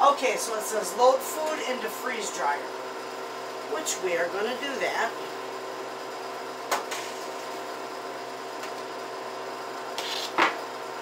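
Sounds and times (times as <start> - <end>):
freeze dryer humming: 0.0 - 11.0.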